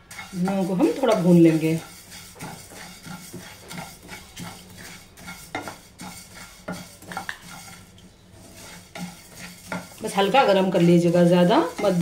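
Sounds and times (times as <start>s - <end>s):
seeds scraping in a frying pan: 0.0s - 12.0s
spatula knocking pan: 0.0s - 12.0s.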